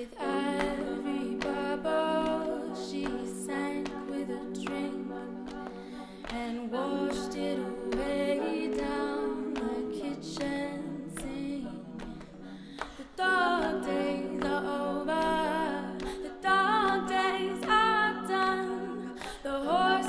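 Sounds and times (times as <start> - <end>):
a cappella backing chords: 0.0 - 20.0
lead voice singing: 0.0 - 20.0.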